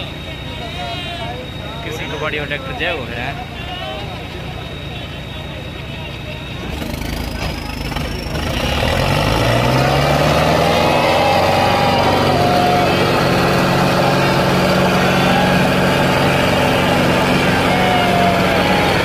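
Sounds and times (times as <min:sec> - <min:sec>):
tractor diesel engines revving: 0:00.0 - 0:19.0.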